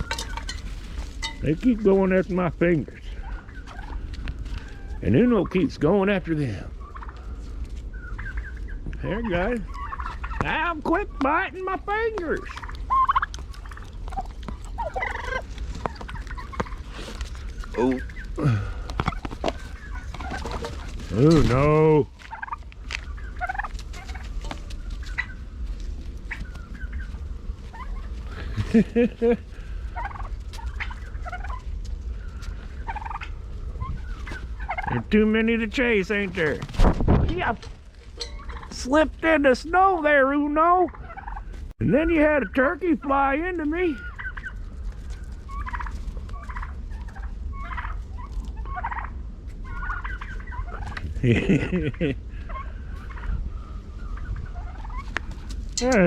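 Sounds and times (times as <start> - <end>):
steady low rumble: 0.0 - 56.0
turkeys calling: 0.0 - 56.0.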